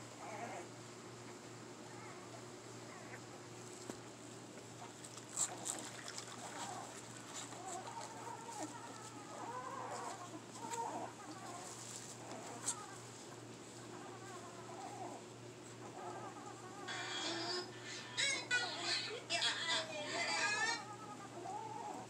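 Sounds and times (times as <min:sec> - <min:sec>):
puppies whimpering and whining: 0:00.1 - 0:00.8, 0:01.9 - 0:03.5, 0:04.8 - 0:19.5, 0:20.1 - 0:22.0.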